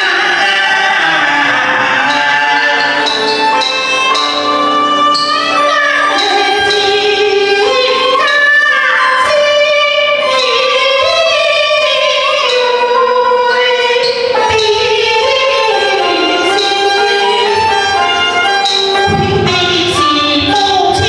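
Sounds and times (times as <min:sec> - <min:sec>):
traditional instrumental accompaniment: 0:00.0 - 0:21.0.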